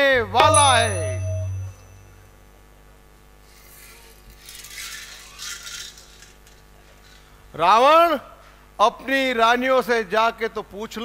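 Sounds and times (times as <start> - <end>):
faint mains hum: 0.0 - 11.0.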